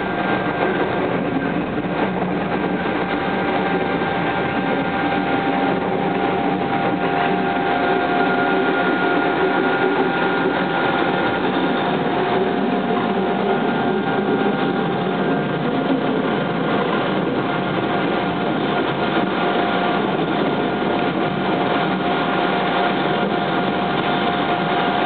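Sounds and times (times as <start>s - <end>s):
constant high hum: 0.0s - 25.0s
train running noise: 0.0s - 25.0s.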